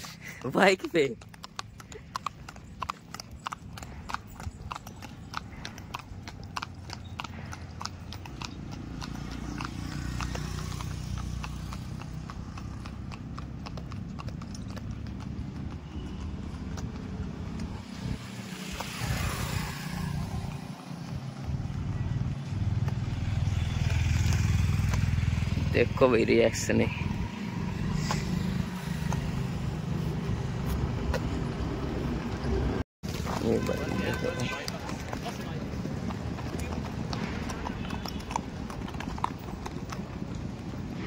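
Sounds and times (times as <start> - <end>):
horse hooves clip-clopping on road: 0.0 - 41.0
passing traffic rumble: 0.0 - 41.0.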